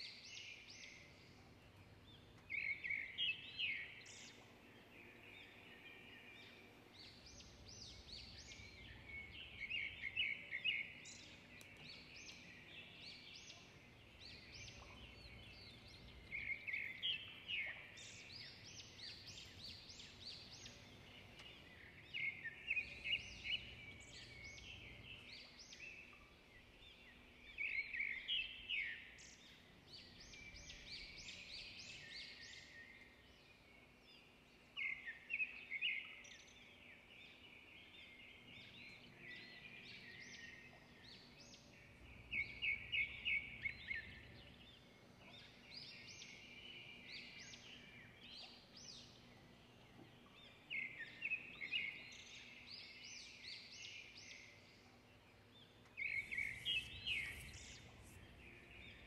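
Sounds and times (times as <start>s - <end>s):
faint steady hiss: 0.0s - 59.0s
birds chirping: 0.1s - 59.0s.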